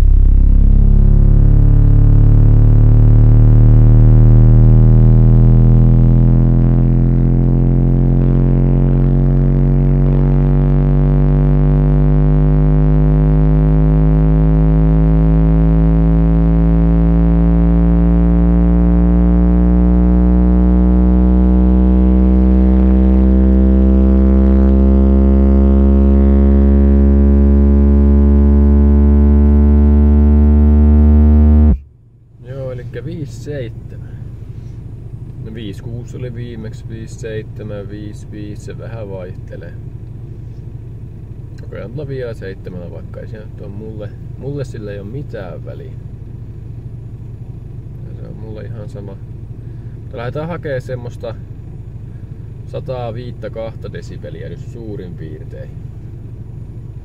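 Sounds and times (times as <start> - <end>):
distorted subwoofer bass sweep: 0.0 - 57.0.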